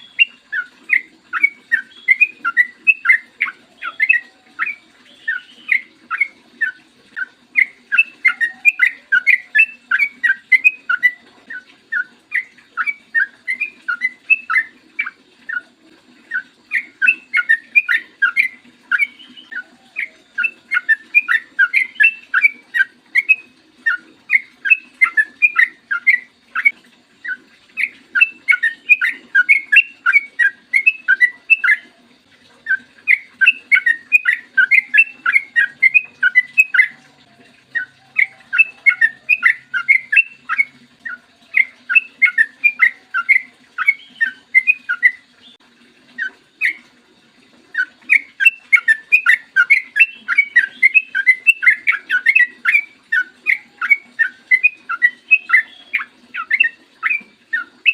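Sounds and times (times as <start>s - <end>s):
bird singing bubbly notes: 0.0s - 57.9s.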